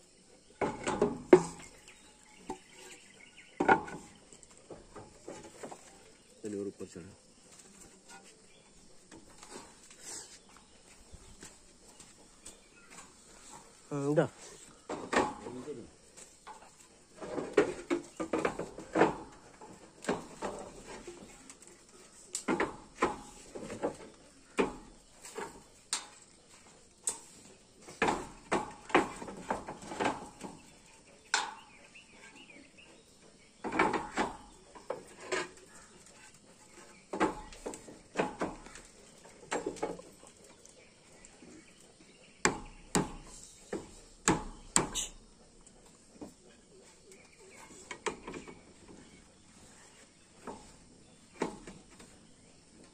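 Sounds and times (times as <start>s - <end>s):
roof tiles clinking and knocking: 0.4s - 52.9s.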